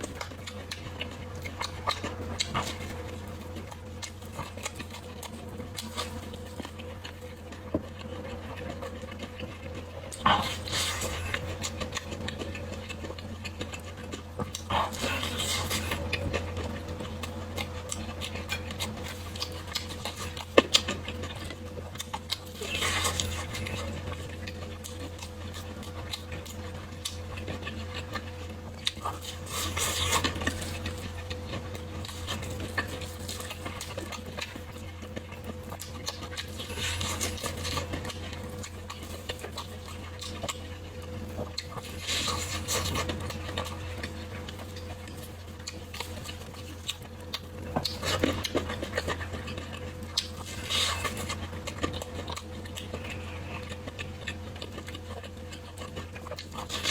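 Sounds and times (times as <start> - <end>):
noisy eating bursts: 0.0 - 56.9
person chewing: 0.0 - 56.9.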